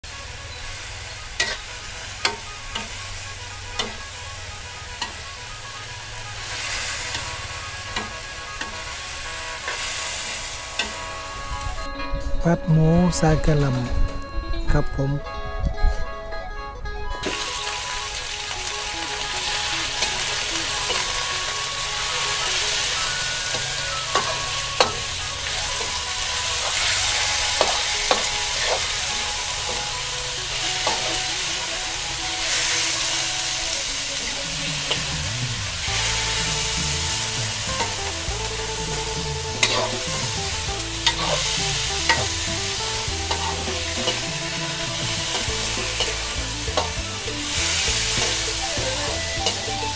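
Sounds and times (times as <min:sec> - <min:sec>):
meat sizzling in a wok: 0:00.1 - 0:11.8, 0:17.2 - 0:49.9
metal spatula scraping a wok: 0:00.1 - 0:11.9, 0:17.3 - 0:49.9.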